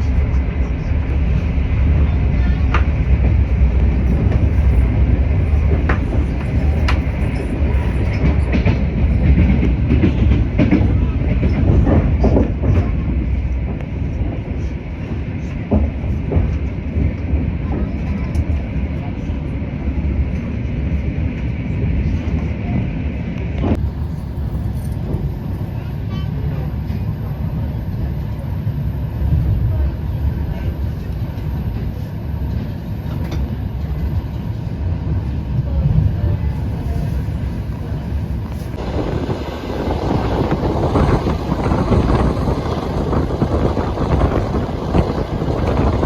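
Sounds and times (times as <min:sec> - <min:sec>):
moving vehicle rumble: 0:00.0 - 0:46.0.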